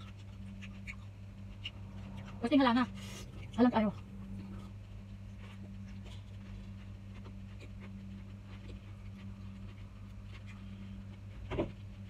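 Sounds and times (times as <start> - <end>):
chewing and mouth smacks: 0.0 - 12.0
steady low hum: 0.0 - 12.0.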